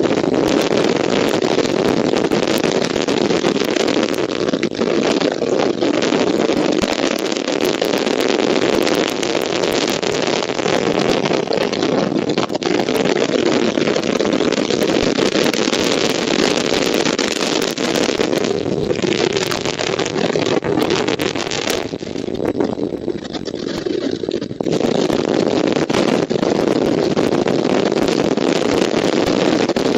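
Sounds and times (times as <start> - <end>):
strong wind buffeting microphone: 0.0 - 29.9.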